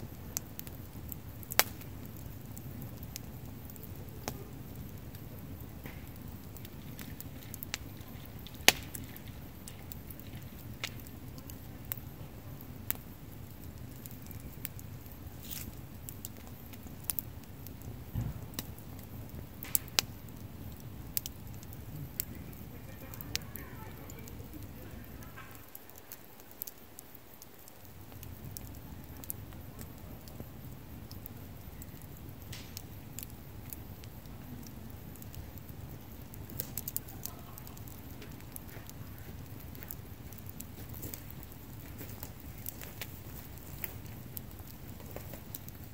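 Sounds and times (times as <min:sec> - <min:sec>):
campfire flame rushing: 0:00.0 - 0:45.9
logs crackling and popping: 0:00.0 - 0:45.9.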